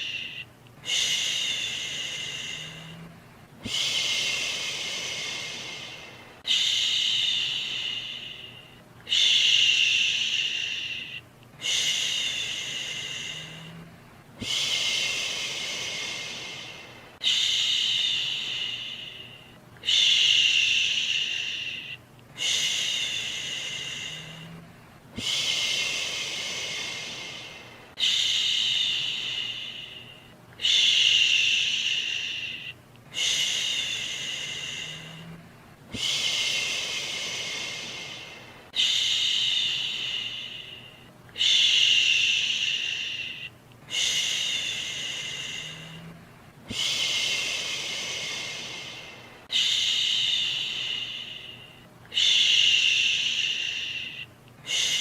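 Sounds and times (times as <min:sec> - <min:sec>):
faint steady noise: 0:00.0 - 0:55.0
person shushing: 0:00.0 - 0:55.0.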